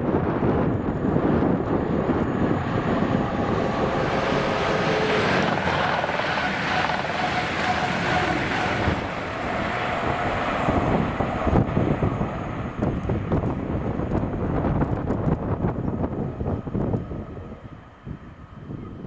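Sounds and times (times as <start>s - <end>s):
diesel train passing: 0.0s - 19.0s
wind on microphone: 0.0s - 19.0s.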